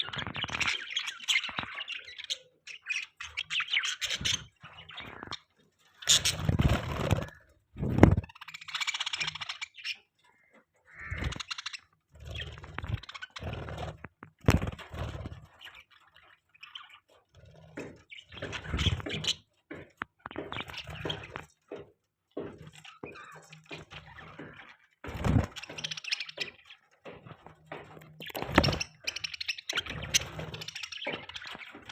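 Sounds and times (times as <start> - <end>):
budgerigars chirping and chattering: 0.0 - 31.9.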